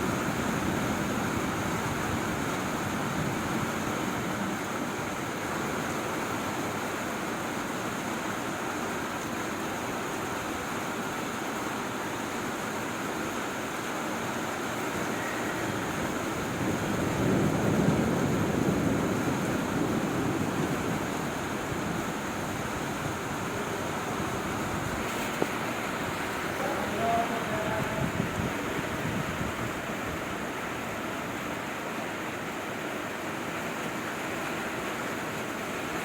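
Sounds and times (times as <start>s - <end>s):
heavy rain hissing: 0.0s - 36.0s.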